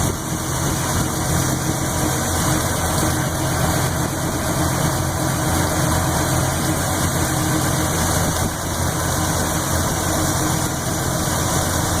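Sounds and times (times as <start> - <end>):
engine idling with lifter tick: 0.0 - 12.0.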